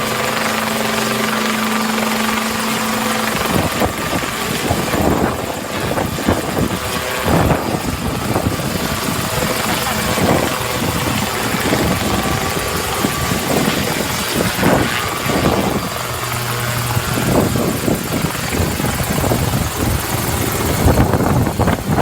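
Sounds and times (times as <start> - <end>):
helicopter engine noise: 0.0 - 22.0
helicopter rotor chopping: 0.0 - 22.0.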